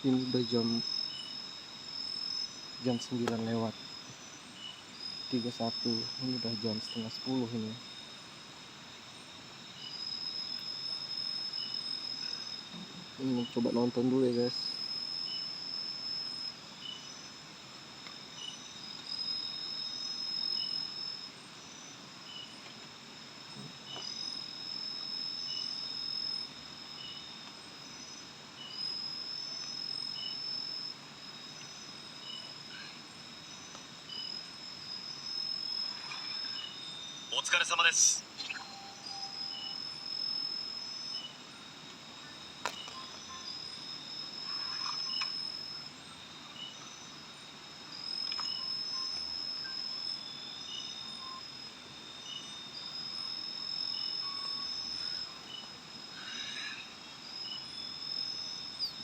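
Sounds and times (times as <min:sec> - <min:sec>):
faint insect chirp: 0:00.0 - 0:59.0
insects trilling: 0:00.0 - 0:59.0.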